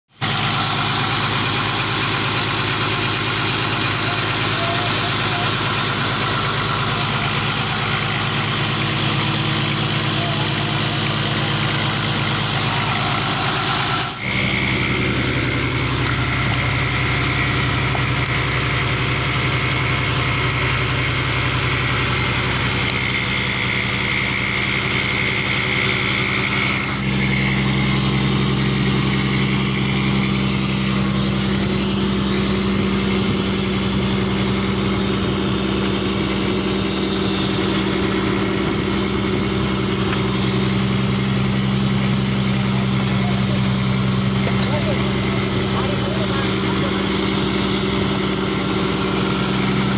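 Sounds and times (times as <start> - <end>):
boat engine humming: 0.1 - 49.9.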